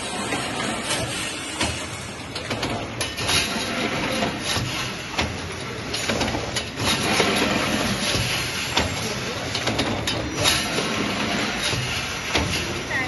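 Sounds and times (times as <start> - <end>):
machine mechanical clatter: 0.0 - 13.0.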